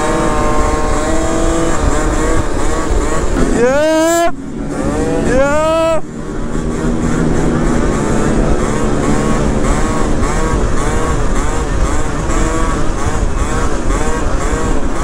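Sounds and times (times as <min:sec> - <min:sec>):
heavy wind: 0:00.0 - 0:15.0
road noise: 0:00.0 - 0:15.0
scooter engine running: 0:00.0 - 0:15.0.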